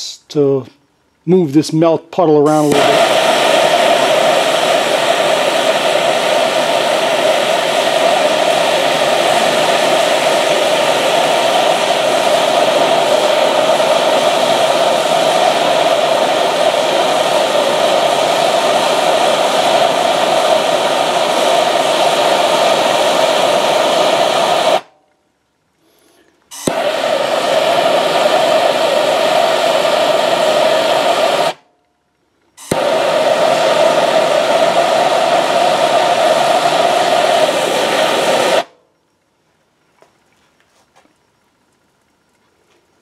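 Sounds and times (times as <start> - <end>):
gas torch burning: 2.3 - 24.9, 26.1 - 31.7, 32.5 - 38.8.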